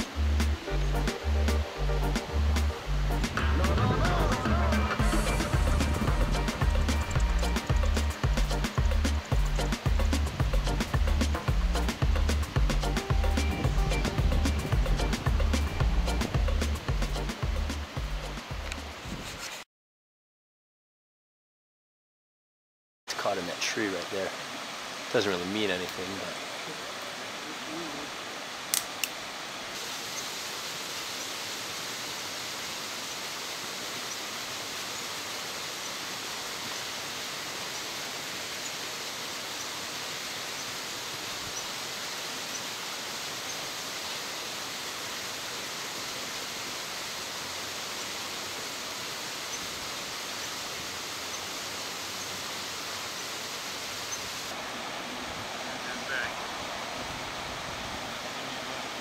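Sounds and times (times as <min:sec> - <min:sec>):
waterfall rushing: 0:00.0 - 0:19.1, 0:23.1 - 0:59.0.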